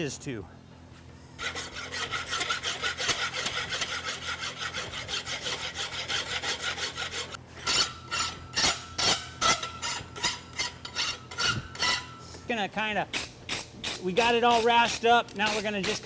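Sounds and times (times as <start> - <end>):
rasp filing steel horseshoe: 1.4 - 12.3, 13.2 - 16.0.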